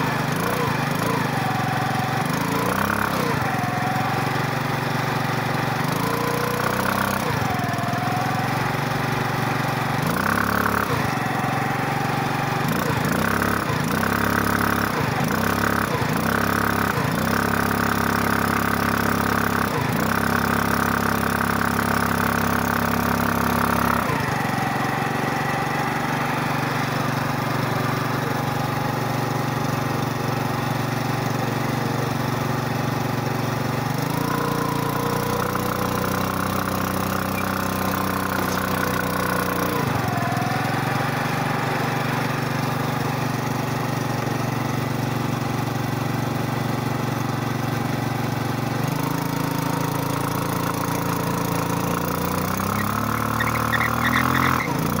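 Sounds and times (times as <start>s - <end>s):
scooter engine revving: 0.0s - 55.0s.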